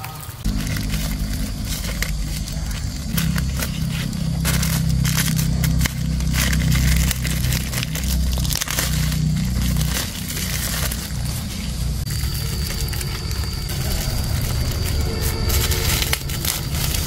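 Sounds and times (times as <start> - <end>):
plastic bag crinkling: 0.0 - 17.0
steady low hum: 0.2 - 17.0.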